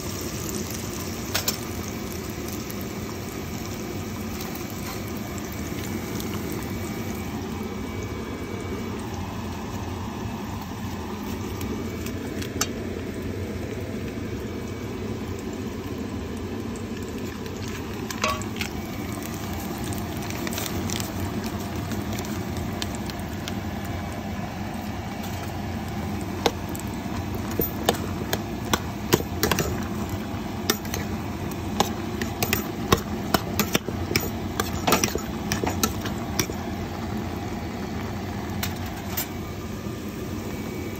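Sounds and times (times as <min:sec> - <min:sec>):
pot of pasta boiling: 0:00.0 - 0:40.9.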